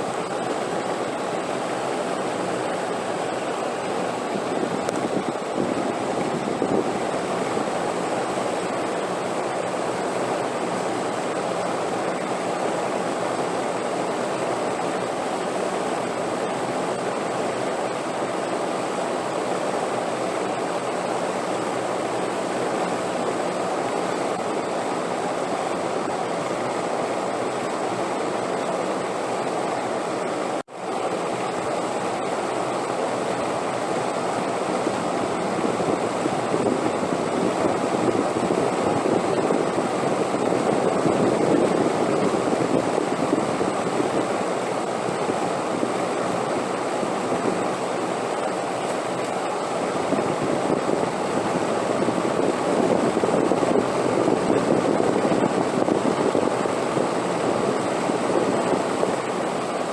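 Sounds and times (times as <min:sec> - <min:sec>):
rushing wind: 0:00.0 - 0:59.9.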